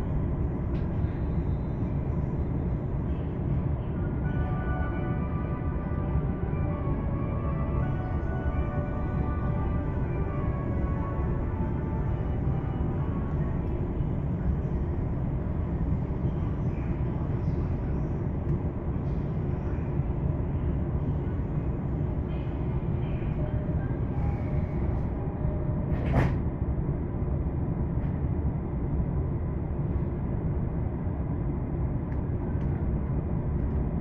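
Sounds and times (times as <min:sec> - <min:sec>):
train wheels rumbling on rail: 0:00.0 - 0:04.2, 0:07.4 - 0:34.0.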